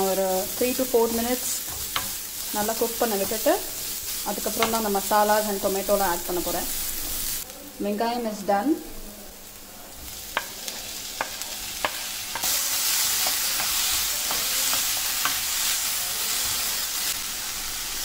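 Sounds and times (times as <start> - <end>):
food sizzling in hot oil: 0.0 - 8.0, 9.4 - 18.0.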